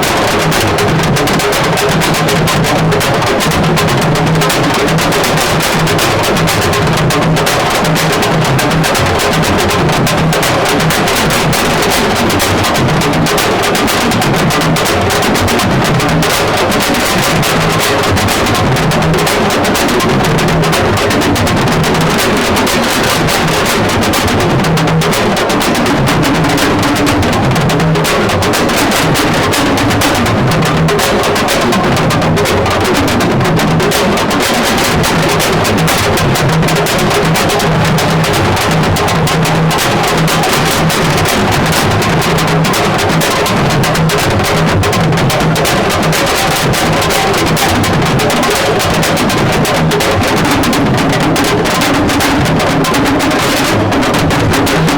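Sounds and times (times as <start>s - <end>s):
music with drums and percussion: 0.0s - 54.9s.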